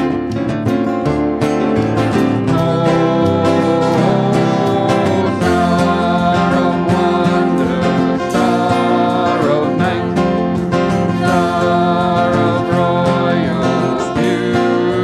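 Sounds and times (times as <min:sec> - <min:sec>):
keyboard: 0:00.0 - 0:15.0
strummed acoustic guitar: 0:00.0 - 0:15.0
harmonica melody: 0:01.4 - 0:15.0.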